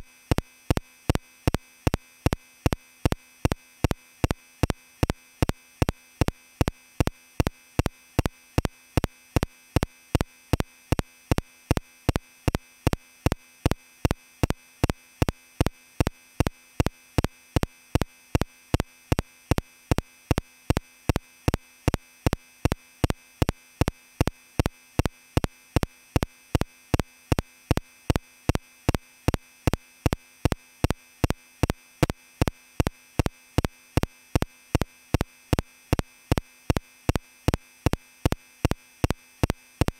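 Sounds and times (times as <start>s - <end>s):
faint steady tone: 0.0s - 39.9s
evenly spaced sharp clicks: 0.3s - 39.9s.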